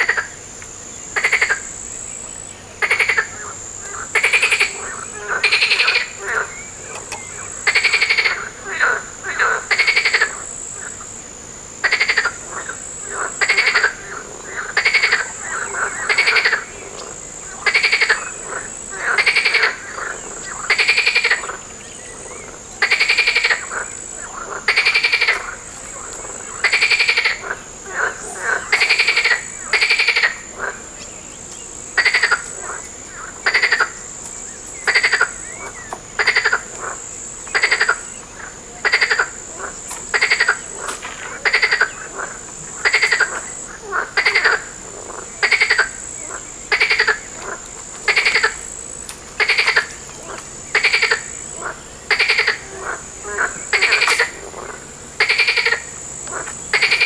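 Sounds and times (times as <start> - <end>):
frog croaking: 0.0 - 57.0
steady high-pitched hiss: 0.0 - 57.0.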